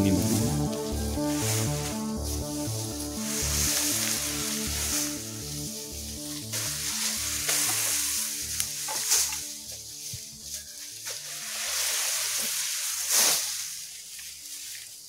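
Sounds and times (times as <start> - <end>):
background music with low notes: 0.0 - 15.0
cut grass rustling and swishing: 0.0 - 15.0.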